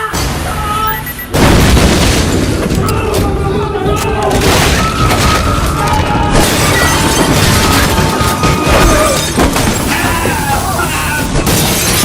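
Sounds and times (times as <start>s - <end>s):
crashing and shattering: 1.4s - 3.5s, 4.2s - 12.0s.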